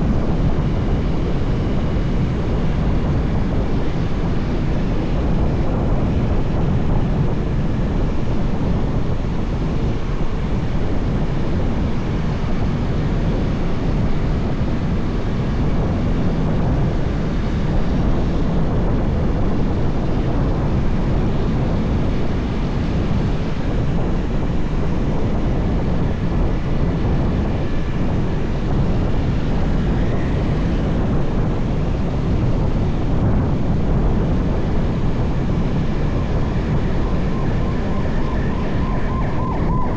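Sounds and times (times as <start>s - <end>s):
motorbike engine rumble: 0.0s - 39.9s
road noise: 0.0s - 39.9s
wind rush over microphone: 0.0s - 39.9s.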